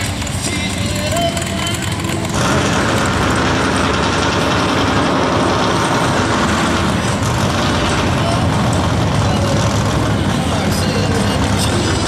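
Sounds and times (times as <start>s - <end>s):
loud car engine running: 0.0s - 12.0s.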